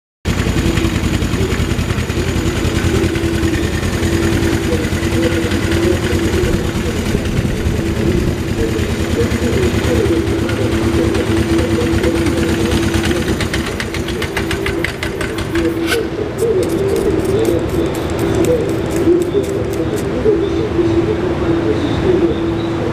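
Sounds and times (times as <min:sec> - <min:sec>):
motorcycle engine idling: 0:00.2 - 0:20.5.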